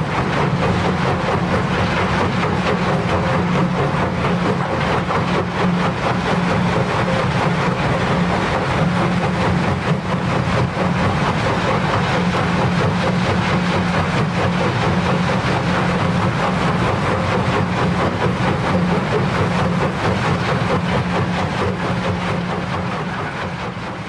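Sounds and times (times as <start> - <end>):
heavy engine drone: 0.0 - 24.0.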